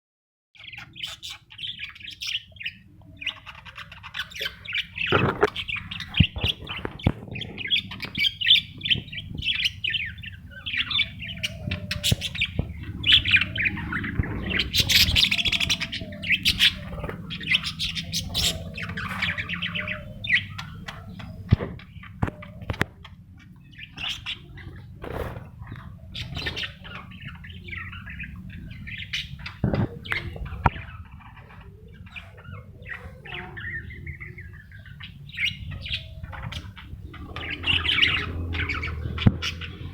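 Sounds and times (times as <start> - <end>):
budgerigars chirping and chattering: 0.6 - 39.9.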